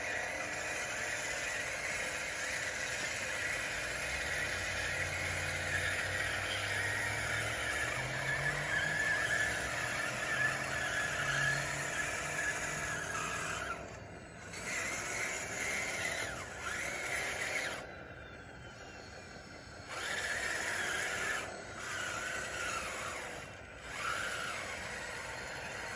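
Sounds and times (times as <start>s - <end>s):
electric motor and gears whining: 0.0s - 25.9s.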